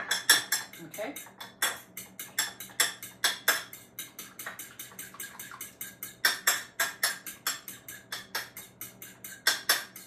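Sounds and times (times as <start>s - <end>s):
fork beating egg in bowl: 0.0s - 10.0s.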